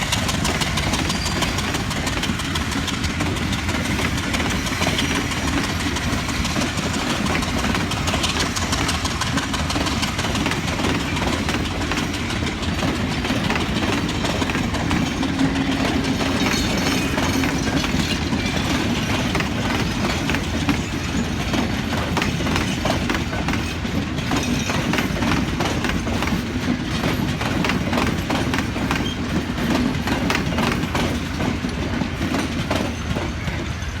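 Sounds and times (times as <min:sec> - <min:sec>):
train rumbling past: 0:00.0 - 0:34.0
wheels clicking over rail joints: 0:00.0 - 0:34.0.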